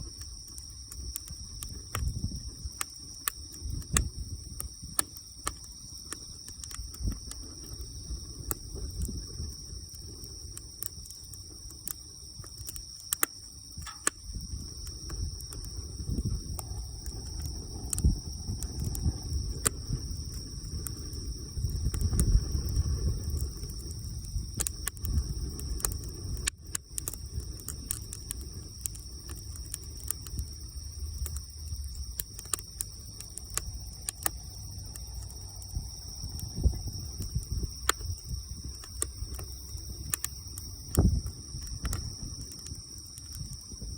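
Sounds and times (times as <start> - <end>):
bonfire crackling and popping: 0.0 - 43.9
low fire rumble: 0.0 - 43.9.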